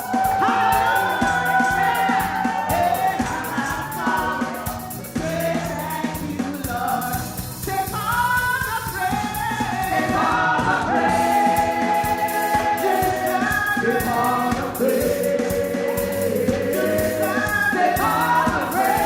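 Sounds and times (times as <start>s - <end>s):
band accompaniment with steady beat: 0.0s - 19.0s
choir singing gospel song: 0.0s - 19.0s.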